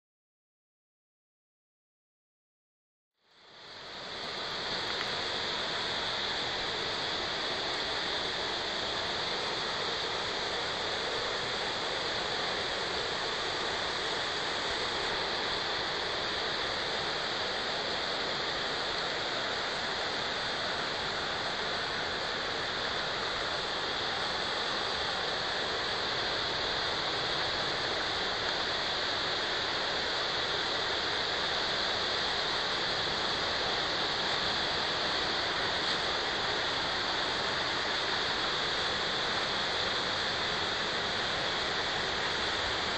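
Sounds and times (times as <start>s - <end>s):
waterfall rushing: 3.4s - 42.9s.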